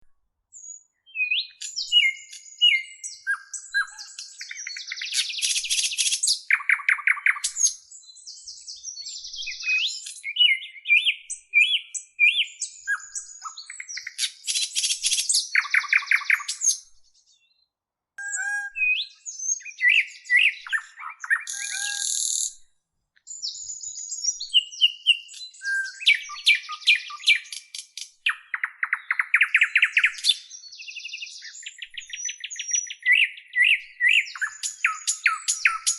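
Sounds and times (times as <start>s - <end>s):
songbird singing: 0.0s - 35.9s.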